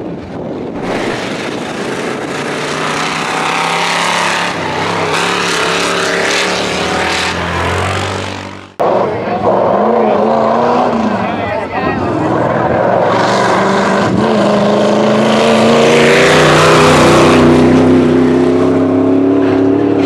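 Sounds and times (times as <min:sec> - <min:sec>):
truck engine running hard: 0:00.0 - 0:20.0
engine revving: 0:00.7 - 0:20.0.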